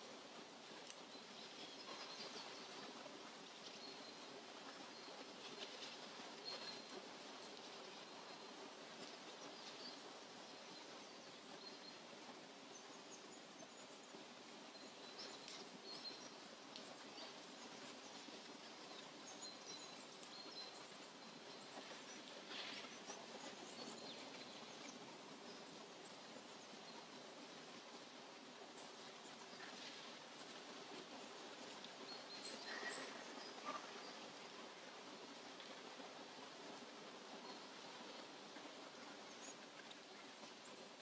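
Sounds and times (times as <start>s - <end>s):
steady soft hiss: 0.0s - 41.0s.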